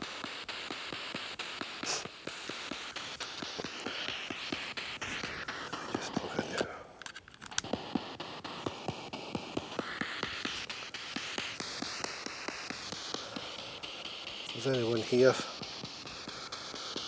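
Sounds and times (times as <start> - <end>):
radio static hiss: 0.0 - 17.0
rapid clicks: 0.0 - 17.0.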